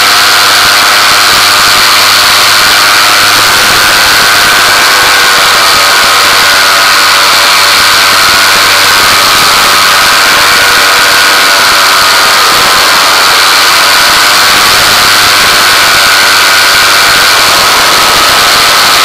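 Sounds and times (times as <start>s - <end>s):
aircraft motor running: 0.0s - 19.0s.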